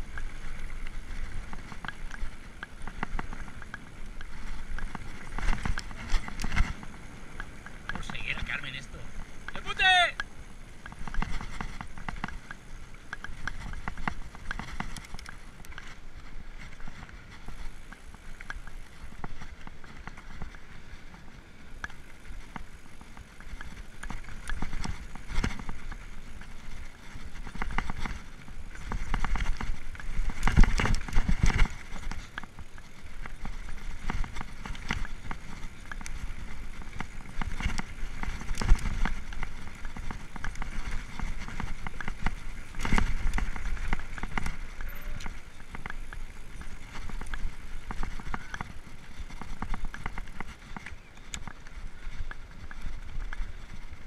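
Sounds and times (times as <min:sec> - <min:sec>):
bike chain and frame rattling: 0:00.0 - 0:54.0
bike tyres rolling on dirt: 0:00.0 - 0:54.0.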